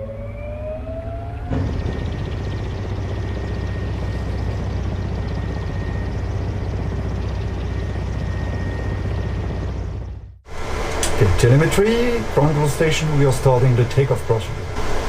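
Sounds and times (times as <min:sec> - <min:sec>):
rotors humming: 0:00.0 - 0:15.0
thin high whine: 0:00.0 - 0:15.0.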